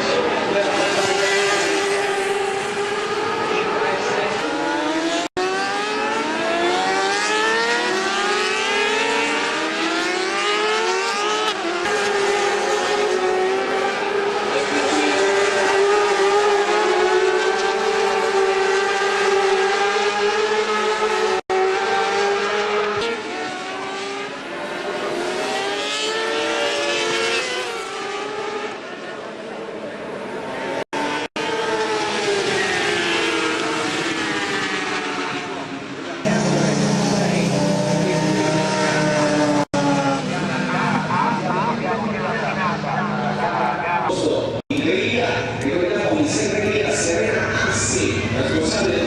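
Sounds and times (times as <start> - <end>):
racing motorcycle engines revving: 0.0 - 49.0.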